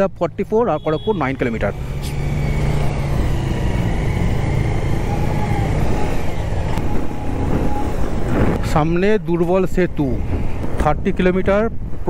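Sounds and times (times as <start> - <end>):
road noise: 0.0 - 12.0
loud wind noise: 1.3 - 12.0.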